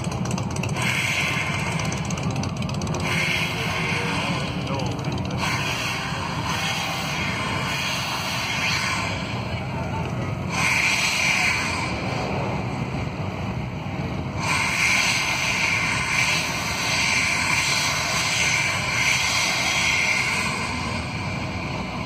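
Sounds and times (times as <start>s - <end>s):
steady low rumble: 0.0s - 22.0s
steam hissing from smokestack: 0.0s - 22.0s.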